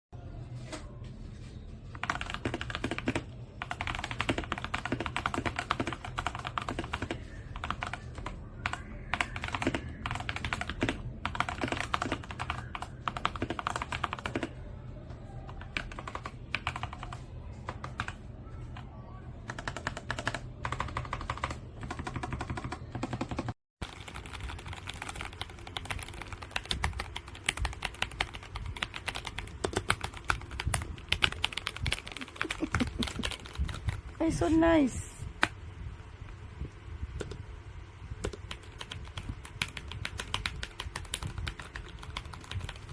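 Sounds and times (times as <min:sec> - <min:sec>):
steady low hum: 0:00.2 - 0:42.9
mechanical keyboard typing: 0:01.9 - 0:14.6, 0:15.4 - 0:34.1, 0:37.2 - 0:37.4, 0:38.2 - 0:42.9.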